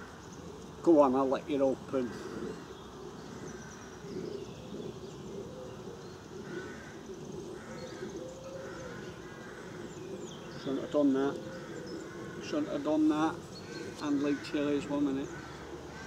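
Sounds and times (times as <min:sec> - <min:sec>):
pigeon cooing: 0:00.0 - 0:16.0
small birds chirping: 0:00.0 - 0:16.0.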